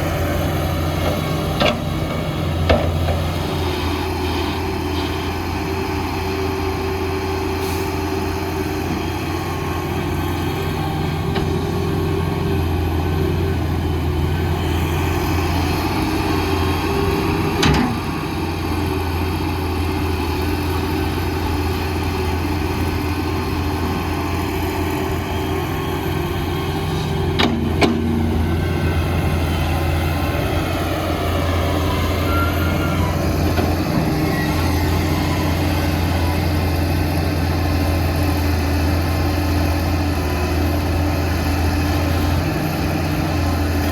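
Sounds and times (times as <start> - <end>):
heavy diesel machinery hum: 0.0 - 43.9.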